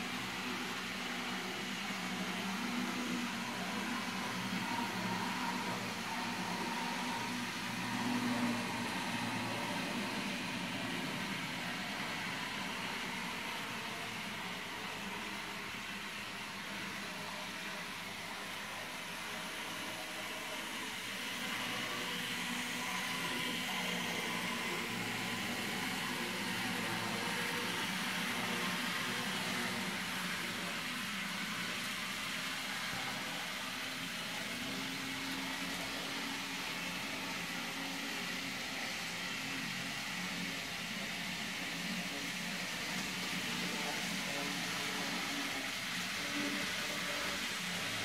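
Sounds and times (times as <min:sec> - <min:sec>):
model train motor hum: 0:00.0 - 0:48.0.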